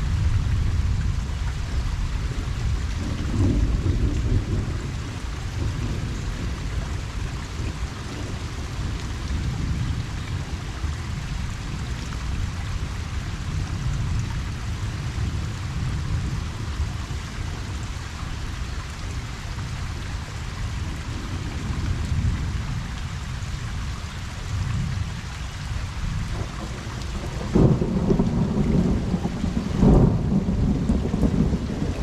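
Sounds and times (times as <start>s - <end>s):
thunder rumble: 0.0s - 18.5s, 19.1s - 25.2s, 25.8s - 32.0s
rain falling on pond: 0.0s - 32.0s.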